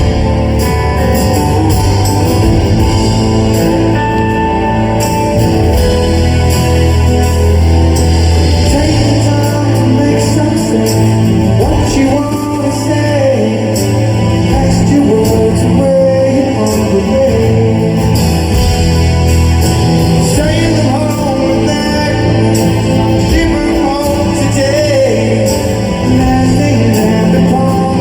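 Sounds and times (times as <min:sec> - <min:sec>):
man singing: 0:00.0 - 0:05.3, 0:08.3 - 0:19.0, 0:20.0 - 0:28.0
live rock band playing: 0:00.0 - 0:28.0.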